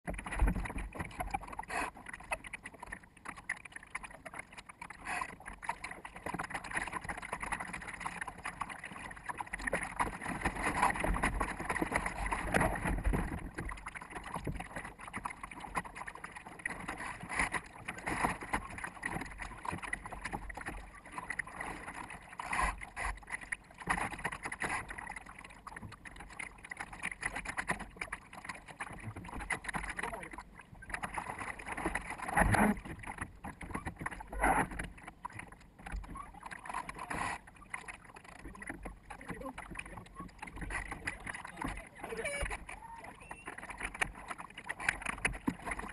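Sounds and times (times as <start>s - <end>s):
water washing along hull: 0.0s - 45.9s.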